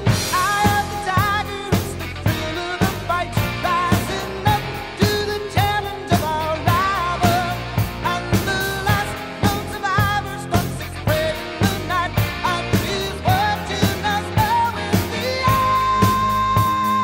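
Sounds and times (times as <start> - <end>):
person singing: 0.0 - 17.0
steady drum beat: 0.0 - 17.0.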